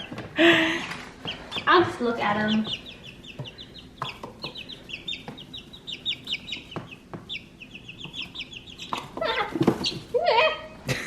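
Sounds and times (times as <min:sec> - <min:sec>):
chicks peeping: 0:00.0 - 0:10.9.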